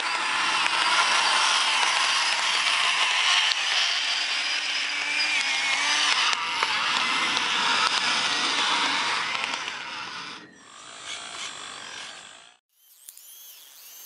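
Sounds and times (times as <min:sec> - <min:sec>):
electric motors and gearbox whirring: 0:00.0 - 0:14.0.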